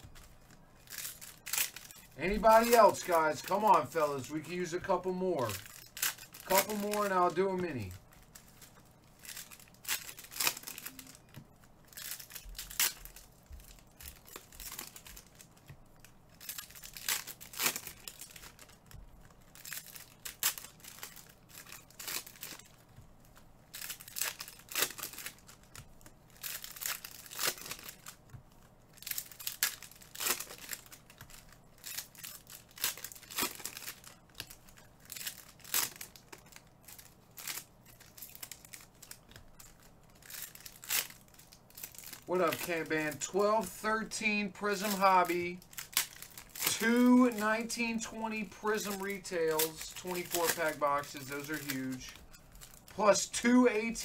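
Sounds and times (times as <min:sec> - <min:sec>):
plastic packaging crinkling: 0:00.0 - 0:54.0.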